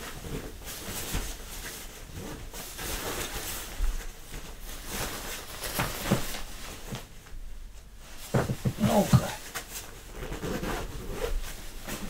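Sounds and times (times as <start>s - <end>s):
sleeping bag fabric rustling: 0.0s - 12.0s.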